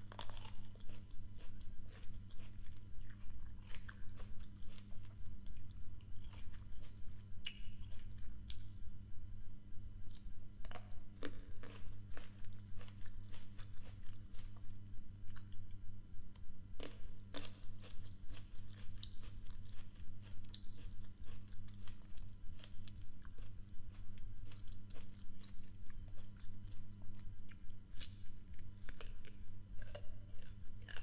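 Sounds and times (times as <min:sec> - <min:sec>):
person chewing crunchy fruit: 0:00.0 - 0:08.7, 0:10.1 - 0:31.0
steady low hum: 0:00.0 - 0:31.0.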